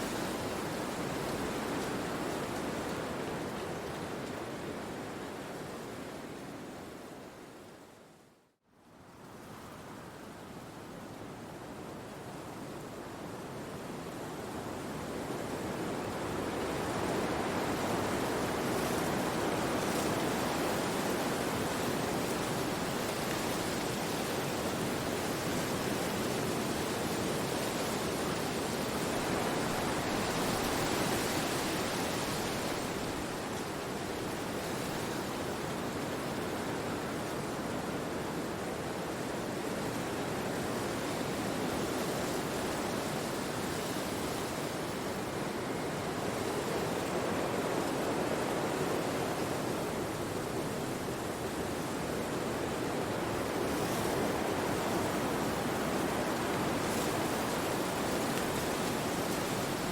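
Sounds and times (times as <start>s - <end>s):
wind rushing through trees: 0.0s - 59.9s.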